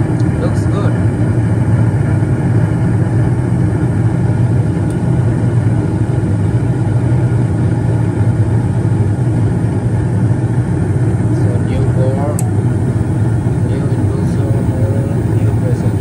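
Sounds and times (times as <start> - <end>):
gas furnace running: 0.0 - 16.0
inducer fan hum and rush: 0.0 - 16.0.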